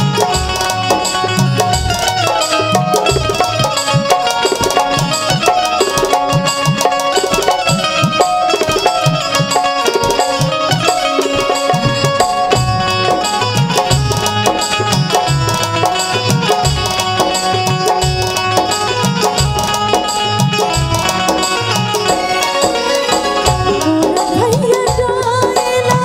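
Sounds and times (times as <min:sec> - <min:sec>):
hand drum rhythm: 0:00.0 - 0:26.0
instrumental folk melody: 0:00.0 - 0:26.0.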